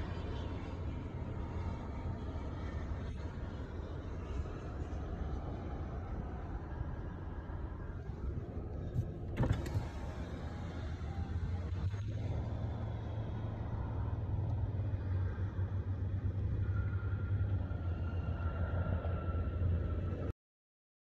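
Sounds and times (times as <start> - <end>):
car engine humming: 0.0 - 20.3.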